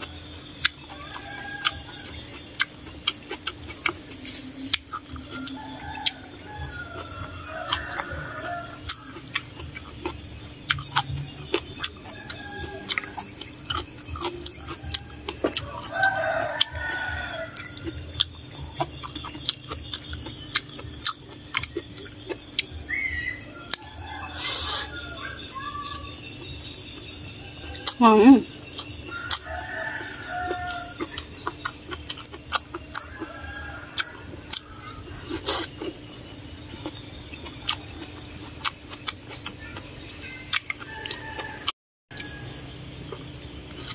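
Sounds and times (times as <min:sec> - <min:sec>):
chickens clucking: 0:00.0 - 0:43.9
wet chewing sounds: 0:00.0 - 0:43.9.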